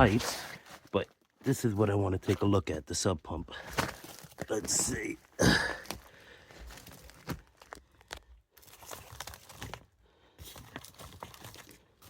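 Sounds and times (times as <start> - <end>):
faint rustling and crinkling: 0.0 - 12.0.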